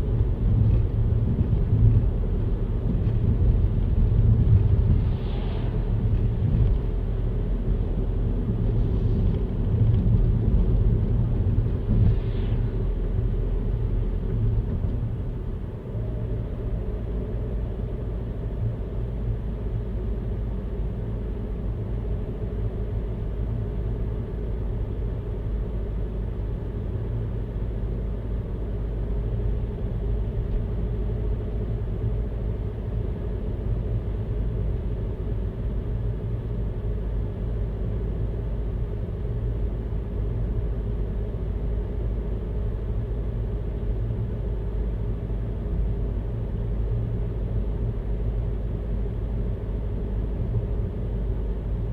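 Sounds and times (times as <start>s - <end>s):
car driving on road: 0.0s - 51.9s.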